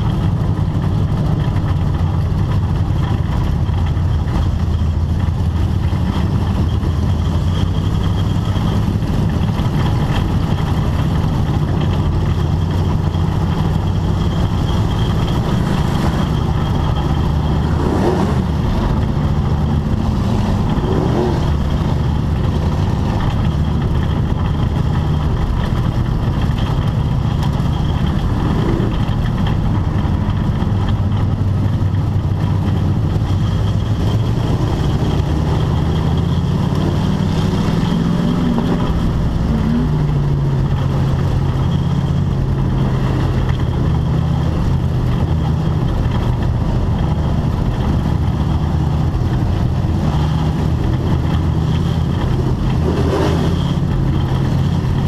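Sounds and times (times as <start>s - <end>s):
race car engine running: 0.0s - 55.0s.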